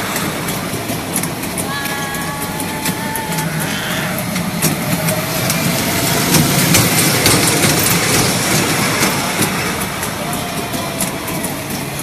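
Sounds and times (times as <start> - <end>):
kiddie ride train rumbling: 0.0 - 12.0.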